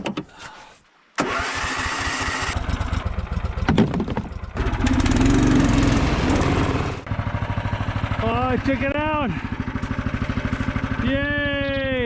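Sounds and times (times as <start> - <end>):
engine running: 1.2 - 12.0.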